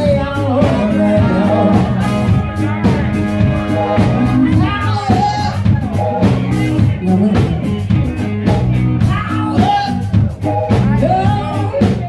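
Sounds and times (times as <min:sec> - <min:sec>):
drum beat: 0:00.0 - 0:12.0
live rock band playing: 0:00.0 - 0:12.0
person singing: 0:00.0 - 0:12.0.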